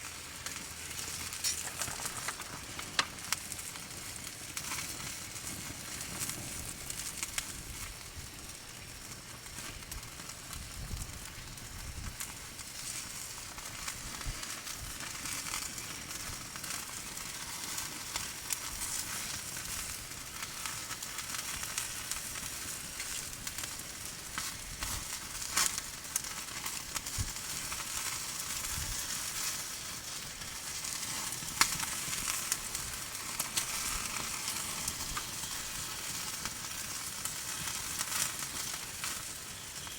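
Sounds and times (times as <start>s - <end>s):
campfire crackling and popping: 0.0s - 39.9s
food sizzling: 0.0s - 39.9s.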